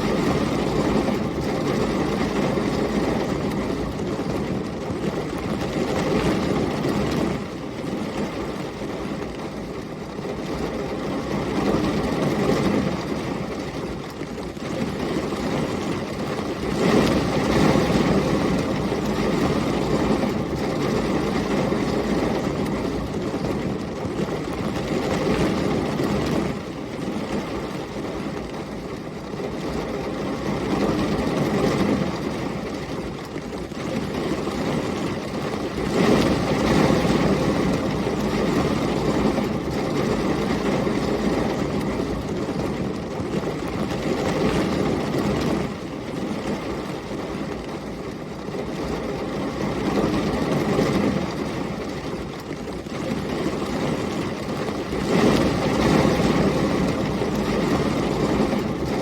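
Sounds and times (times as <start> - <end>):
gusting storm wind: 0.0 - 59.0
heavy rain: 0.0 - 59.0.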